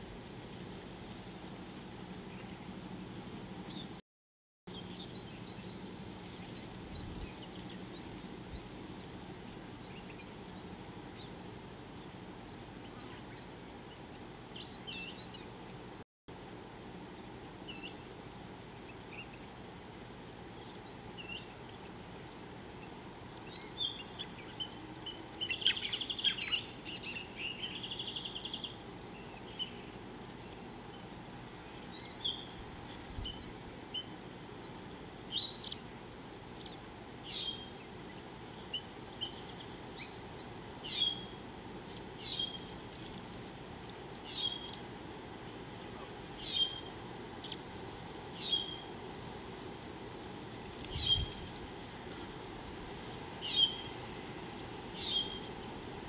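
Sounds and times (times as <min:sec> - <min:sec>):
steady background hiss: 0:00.0 - 0:04.0, 0:04.7 - 0:56.0
birds chirping: 0:00.5 - 0:04.0, 0:04.7 - 0:15.9, 0:20.3 - 0:56.0.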